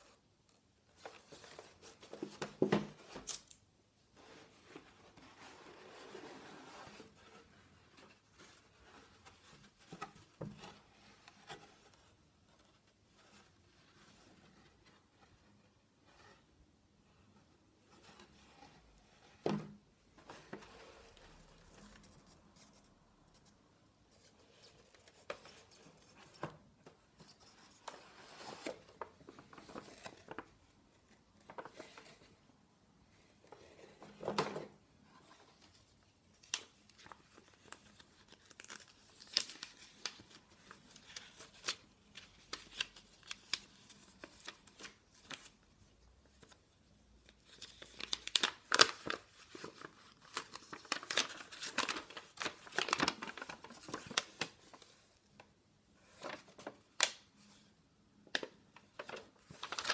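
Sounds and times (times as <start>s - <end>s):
cardboard and paper rustling: 0.8s - 3.3s, 4.2s - 16.4s, 18.0s - 32.4s, 33.1s - 46.7s, 47.3s - 55.2s, 56.0s - 57.7s, 58.3s - 59.9s.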